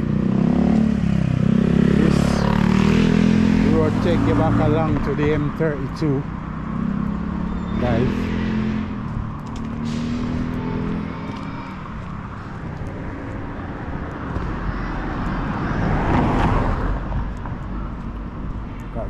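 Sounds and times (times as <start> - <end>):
car passing: 0.0 - 19.0
vehicle engine humming: 0.0 - 19.0.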